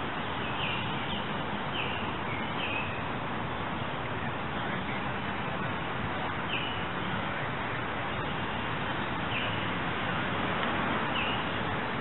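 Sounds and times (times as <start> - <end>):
rushing outdoor hiss: 0.0 - 12.0.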